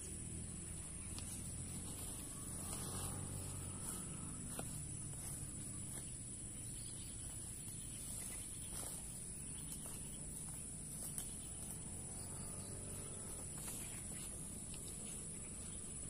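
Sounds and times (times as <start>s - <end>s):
high-pitched insect drone: 0.0s - 16.0s
low outdoor rumble: 0.0s - 16.0s
faint clicks and rustles: 0.9s - 15.9s.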